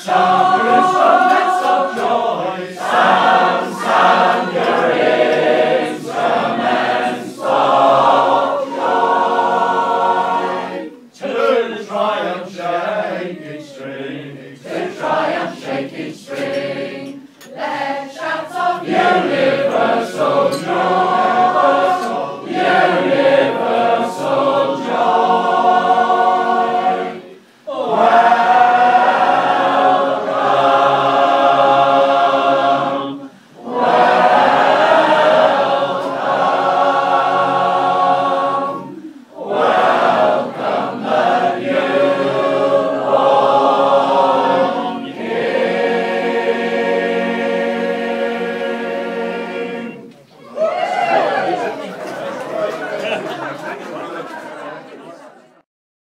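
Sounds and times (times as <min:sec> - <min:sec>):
choir singing a carol: 0:00.0 - 0:50.3, 0:50.9 - 0:55.3.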